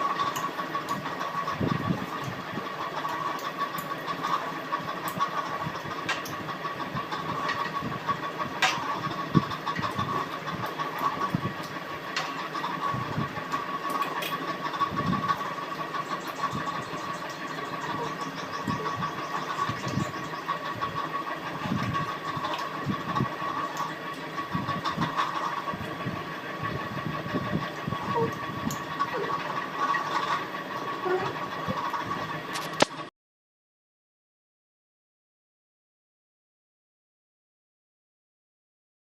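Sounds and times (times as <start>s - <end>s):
steady background hum: 0.0s - 33.1s.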